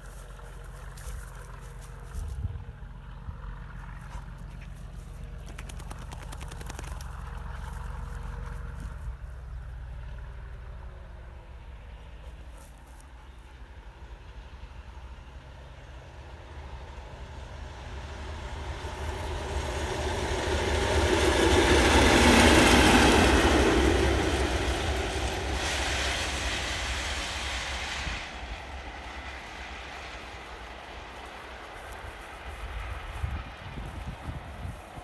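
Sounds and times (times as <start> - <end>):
diesel locomotive passing: 0.0 - 35.0.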